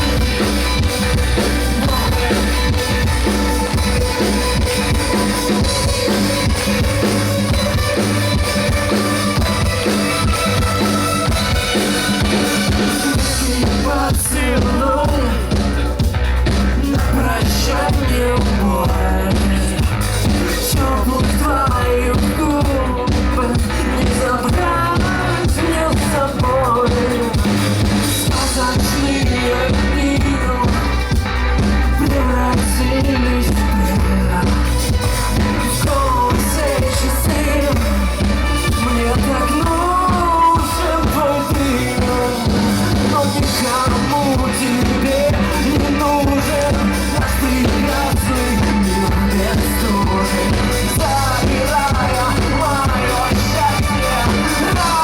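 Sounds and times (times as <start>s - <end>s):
lead singer singing: 0.0s - 55.0s
pop-rock band playing: 0.0s - 55.0s.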